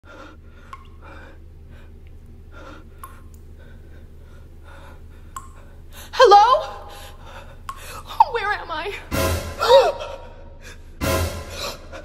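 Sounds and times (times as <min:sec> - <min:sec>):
woman breathing quickly: 0:00.0 - 0:06.2, 0:06.8 - 0:08.2, 0:09.6 - 0:12.0
steady low hum: 0:00.0 - 0:12.0.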